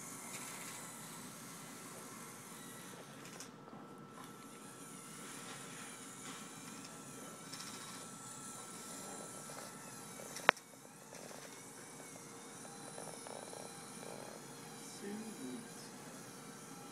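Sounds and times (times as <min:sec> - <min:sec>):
toy truck motors whirring: 0:00.0 - 0:16.9.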